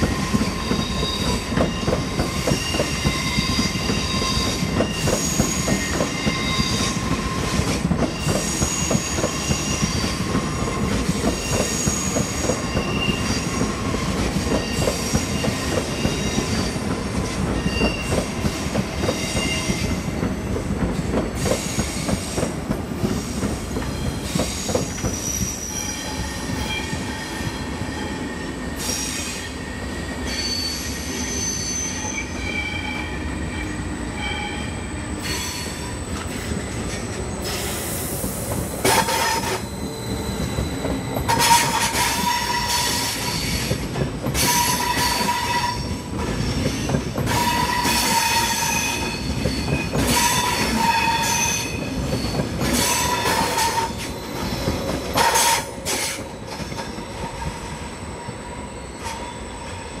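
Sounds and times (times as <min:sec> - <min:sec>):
train wheels squealing: 0:00.0 - 0:20.6, 0:21.4 - 1:00.0.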